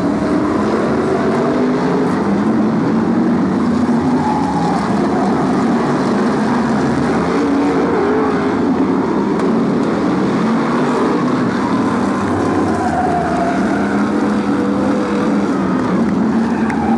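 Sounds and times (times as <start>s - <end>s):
stock car engines racing: 0.0s - 16.9s.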